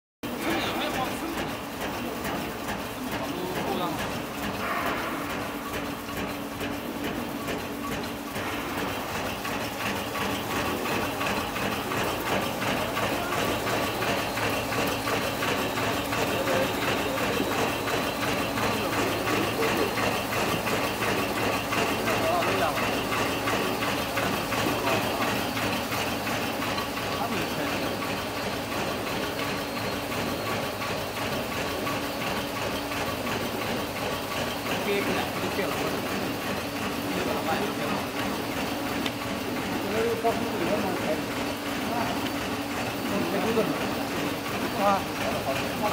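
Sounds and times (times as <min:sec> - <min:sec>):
machine hum: 0:00.2 - 0:45.9
wrapping machine clattering: 0:00.3 - 0:45.9.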